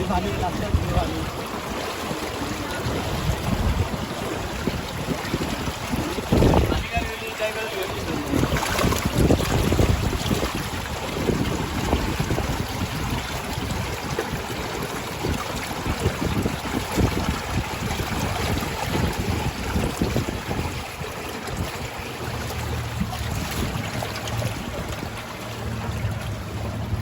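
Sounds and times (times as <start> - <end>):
rushing floodwater: 0.0 - 27.0
wind buffeting microphone: 0.0 - 27.0.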